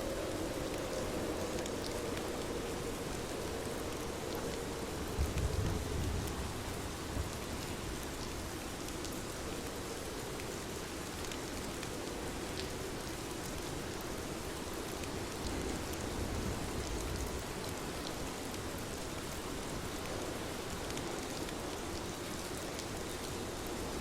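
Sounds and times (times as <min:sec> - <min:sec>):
rain drops ticking: 0:00.0 - 0:24.0.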